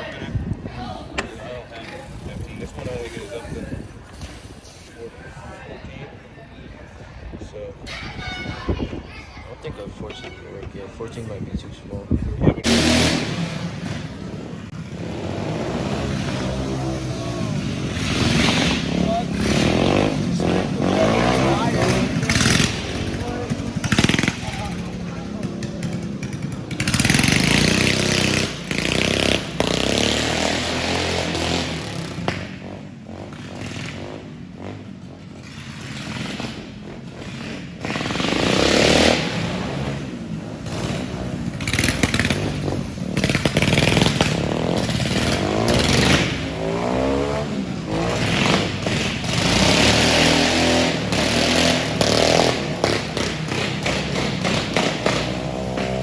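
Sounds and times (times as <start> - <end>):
motorcycle engine revving: 0.0 - 5.6, 11.9 - 56.0.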